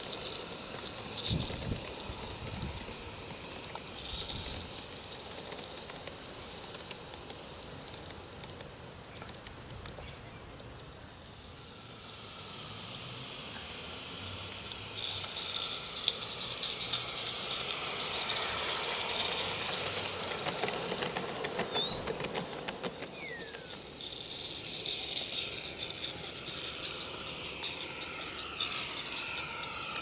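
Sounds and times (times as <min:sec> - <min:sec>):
steam locomotive hissing: 0:00.0 - 0:09.1, 0:11.1 - 0:30.0.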